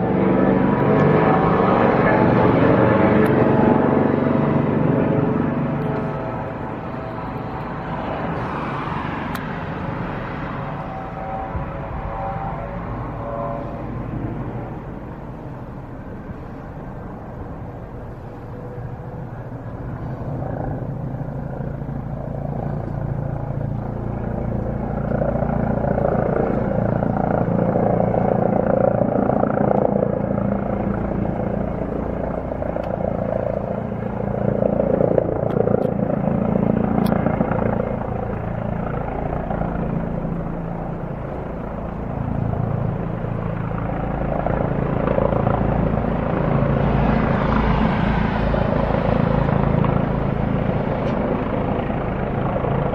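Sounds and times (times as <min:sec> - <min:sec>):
helicopter rotor and turbine: 0:00.0 - 0:52.9.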